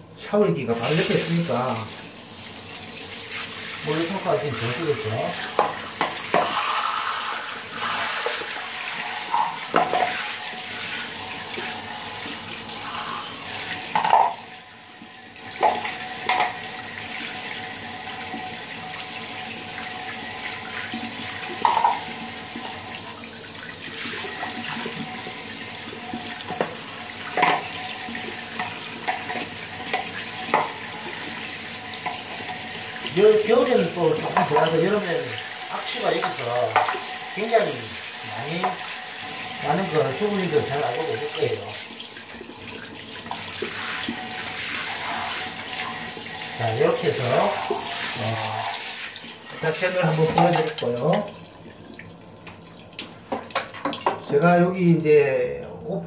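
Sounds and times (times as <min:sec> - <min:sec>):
shower head spraying water: 0:00.8 - 0:14.6, 0:15.4 - 0:42.3, 0:42.9 - 0:51.0.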